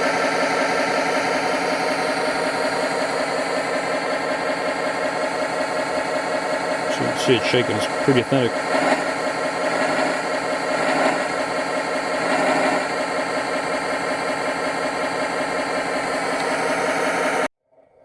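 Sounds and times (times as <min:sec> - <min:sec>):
simulated diesel engine idling: 0:00.0 - 0:17.5.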